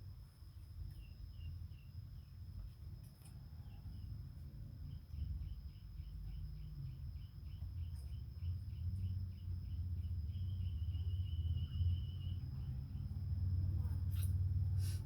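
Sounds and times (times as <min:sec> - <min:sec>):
insects chirping: 0:00.0 - 0:15.0
low background rumble: 0:00.0 - 0:15.0.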